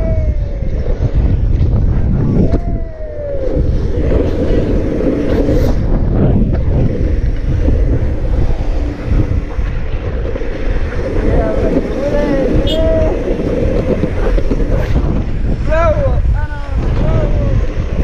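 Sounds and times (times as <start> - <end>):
road noise: 0.0 - 18.0
wind buffeting microphone: 0.0 - 18.0.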